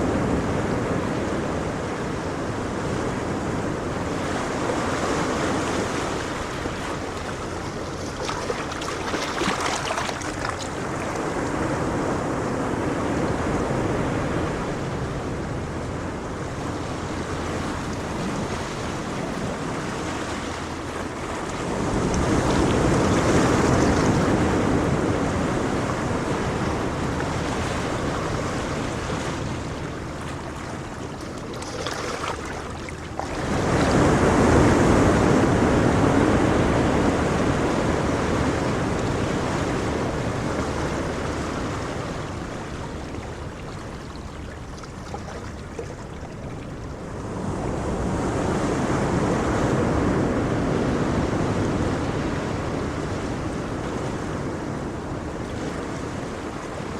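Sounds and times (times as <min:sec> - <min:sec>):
ocean waves rolling in: 0:00.0 - 0:56.9.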